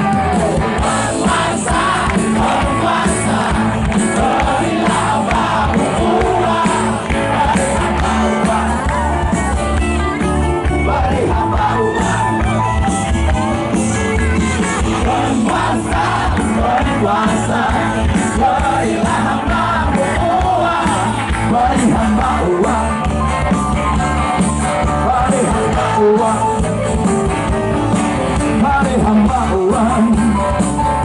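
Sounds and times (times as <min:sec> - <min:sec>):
live rock band with singing: 0:00.0 - 0:31.0.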